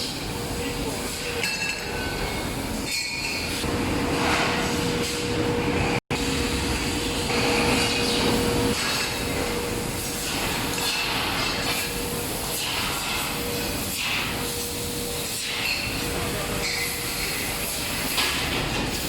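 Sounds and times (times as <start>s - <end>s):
laser cutting machines droning: 2.0s - 19.0s.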